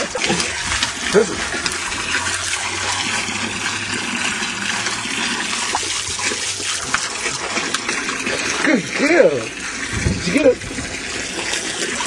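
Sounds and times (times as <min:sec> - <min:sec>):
hose water pouring and splashing: 0:00.0 - 0:12.0.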